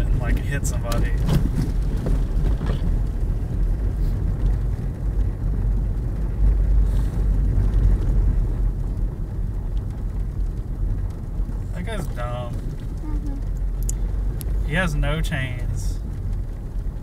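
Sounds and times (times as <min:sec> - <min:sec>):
car engine rumble from inside: 0:00.0 - 0:17.0
tyre noise on snowy road: 0:00.0 - 0:17.0.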